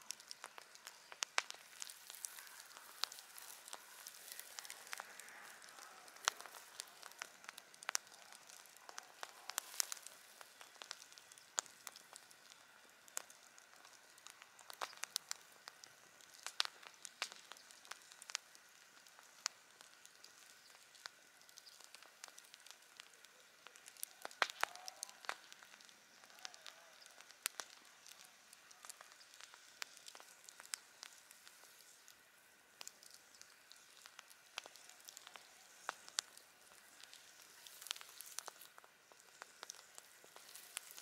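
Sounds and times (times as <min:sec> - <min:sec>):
campfire crackling and popping: 0:00.0 - 0:41.0
faint steady hiss: 0:00.0 - 0:41.0.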